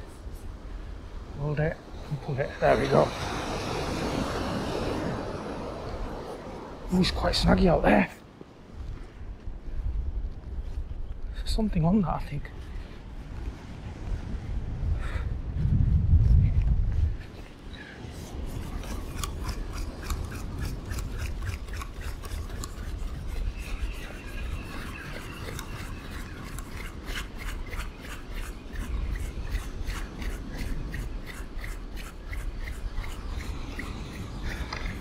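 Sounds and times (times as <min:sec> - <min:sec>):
wind: 0:00.0 - 0:35.0.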